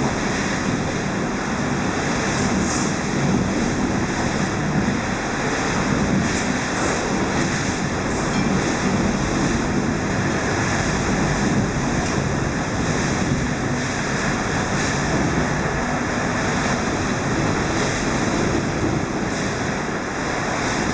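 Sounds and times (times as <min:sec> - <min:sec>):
strong wind rushing: 0:00.0 - 0:20.9
waves breaking: 0:00.0 - 0:20.9.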